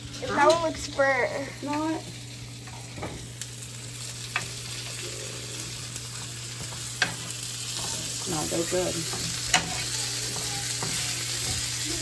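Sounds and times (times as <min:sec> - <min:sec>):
chicken sizzling in pan: 0:00.0 - 0:12.0.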